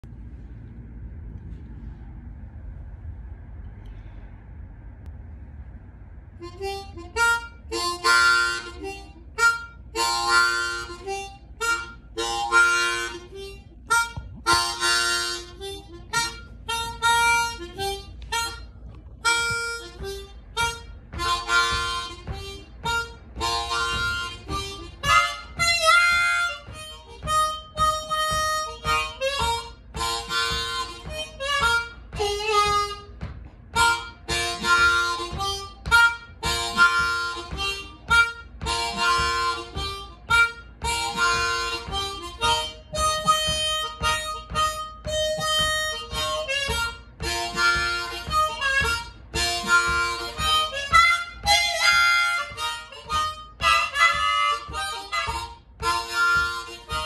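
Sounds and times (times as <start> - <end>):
blues harmonica: 6.4 - 57.0.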